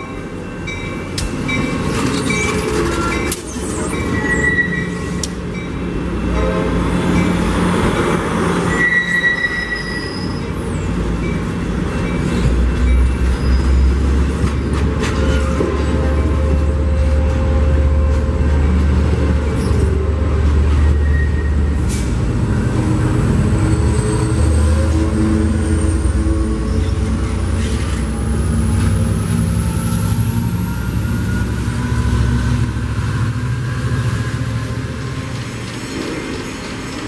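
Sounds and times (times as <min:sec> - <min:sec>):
train locomotive rumbling: 0:00.0 - 0:37.0.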